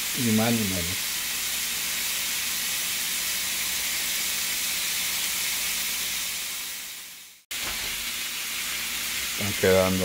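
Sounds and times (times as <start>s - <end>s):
steaks sizzling on grill pan: 0.0s - 10.0s.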